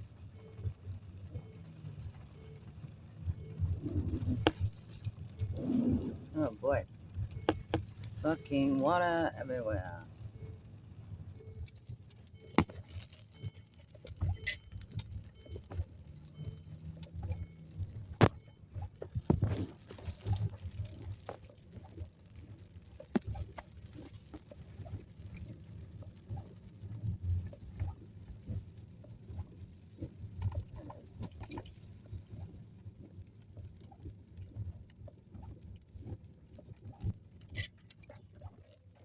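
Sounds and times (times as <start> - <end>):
car rumbling on wet road: 0.0 - 38.0.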